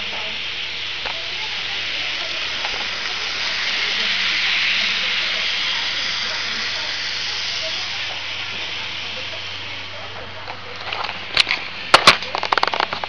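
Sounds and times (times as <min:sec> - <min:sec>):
model train motor whirring on rails: 0:00.0 - 0:13.0.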